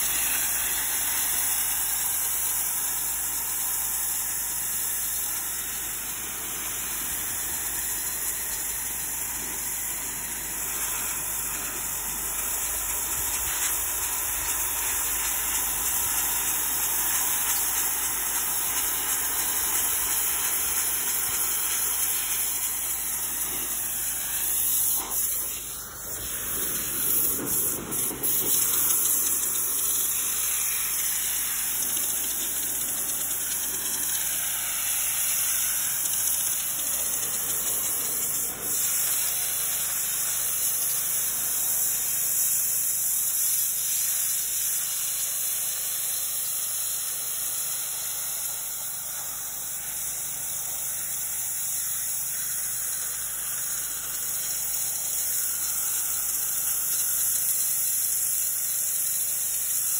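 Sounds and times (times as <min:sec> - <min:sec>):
pressure washer water spray: 0:00.0 - 0:59.9.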